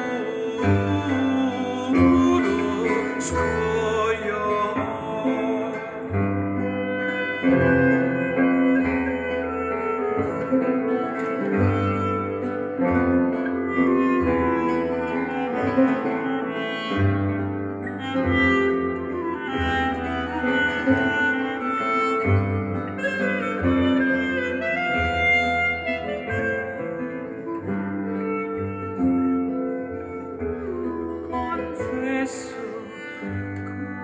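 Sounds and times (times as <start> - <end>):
acoustic instrumental music: 0.0 - 34.0.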